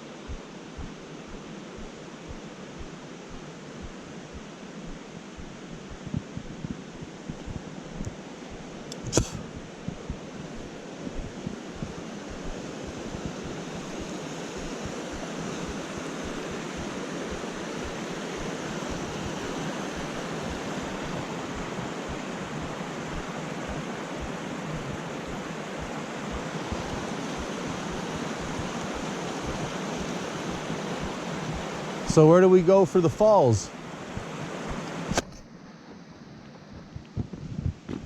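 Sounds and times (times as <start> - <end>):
rushing creek water: 0.0 - 35.4.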